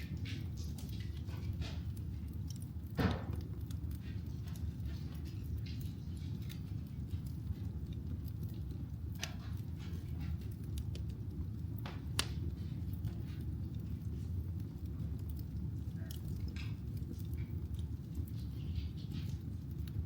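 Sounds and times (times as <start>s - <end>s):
fire crackling: 0.0s - 20.0s
fire popping: 0.0s - 20.0s
wood fire rumbling: 0.0s - 20.0s.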